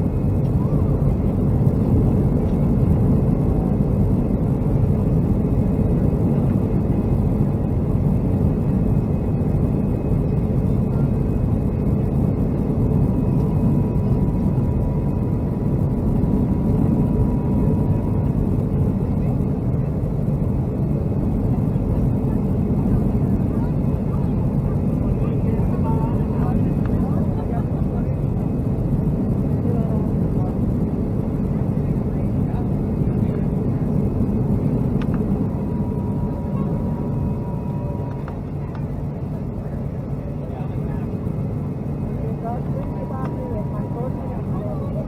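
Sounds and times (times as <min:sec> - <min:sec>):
airplane cabin engine rumble: 0:00.0 - 0:45.0
faint steady whine: 0:00.0 - 0:45.0.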